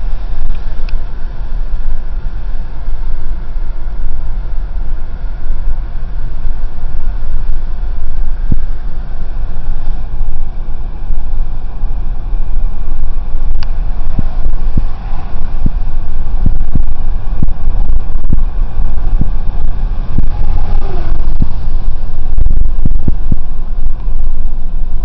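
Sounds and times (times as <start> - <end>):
heavy low rumble: 0.0 - 25.0
road and wind noise: 0.0 - 25.0.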